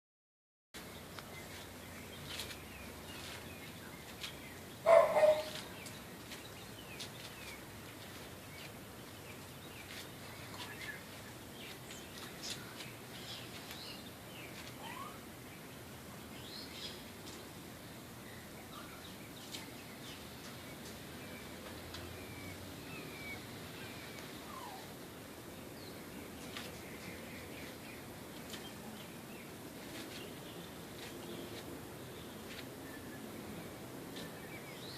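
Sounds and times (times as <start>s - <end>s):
wild birds chirping: 0.8s - 34.9s.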